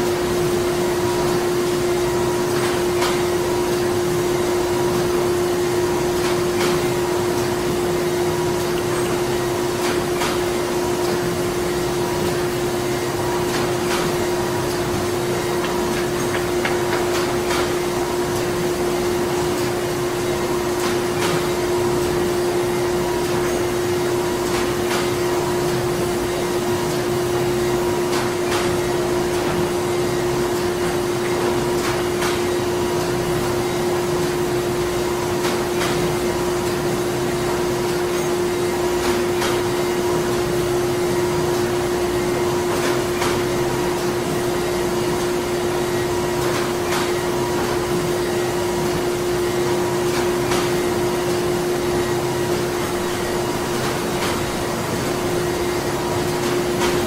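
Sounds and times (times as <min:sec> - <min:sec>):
machinery humming: 0:00.0 - 0:57.0.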